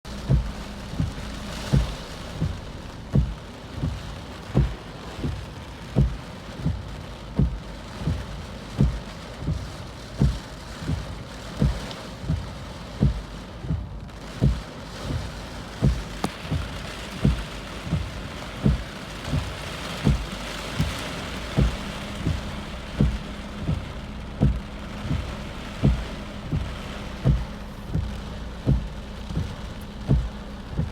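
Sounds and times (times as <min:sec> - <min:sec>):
dull thuds: 0:00.1 - 0:30.9
heavy rain hissing: 0:00.1 - 0:30.9.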